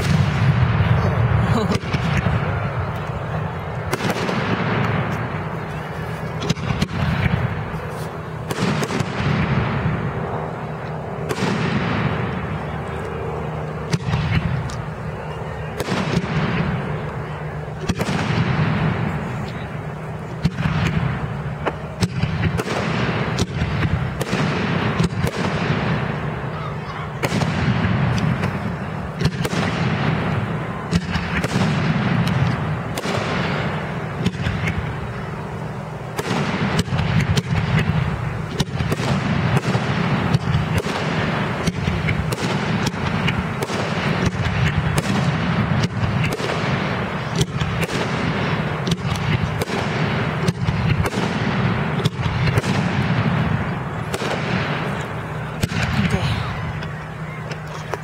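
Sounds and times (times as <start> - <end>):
fireworks sharp bangs: 0.0 - 58.0
rumble of fireworks booms: 0.0 - 58.0.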